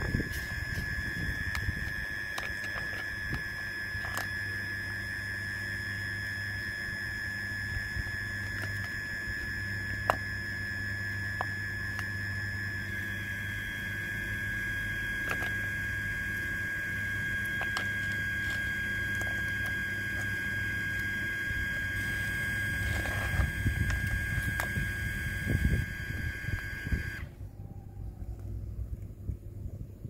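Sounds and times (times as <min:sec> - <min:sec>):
thin high whine: 0:00.0 - 0:28.7
low hum: 0:00.0 - 0:30.0.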